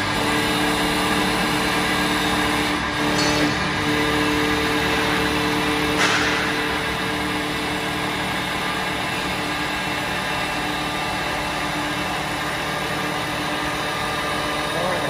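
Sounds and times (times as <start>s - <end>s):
lathe motor hum: 0.0s - 15.0s.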